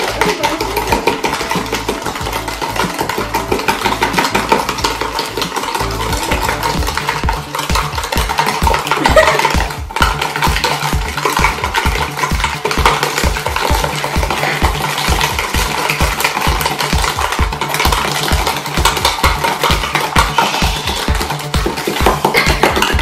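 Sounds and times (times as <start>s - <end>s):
spoons whipping in plastic containers: 0.0s - 23.0s.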